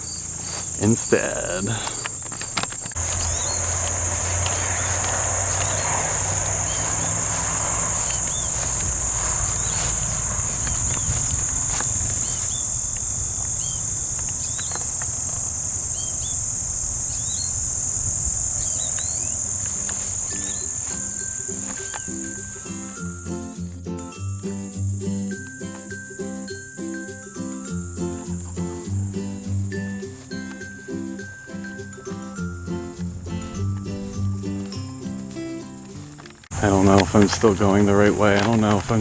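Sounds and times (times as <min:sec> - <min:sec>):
bird chirps: 0:00.0 - 0:35.0
insects droning: 0:00.0 - 0:39.0.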